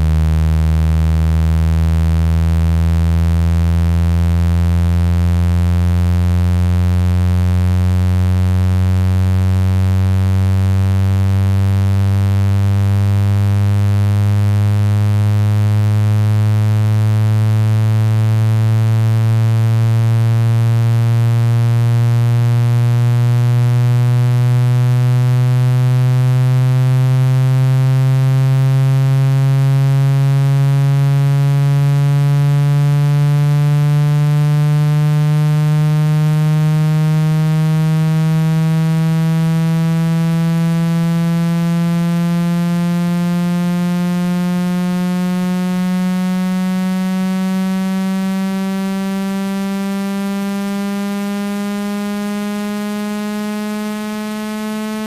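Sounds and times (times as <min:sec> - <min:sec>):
low buzzing tone rising in pitch: 0:00.0 - 0:55.0.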